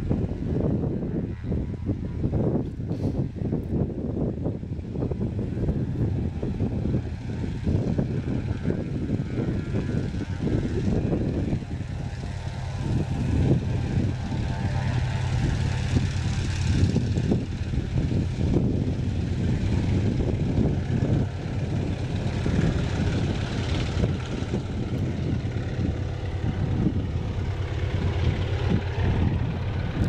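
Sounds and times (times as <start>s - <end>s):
propeller plane engine drone: 0.0s - 30.0s.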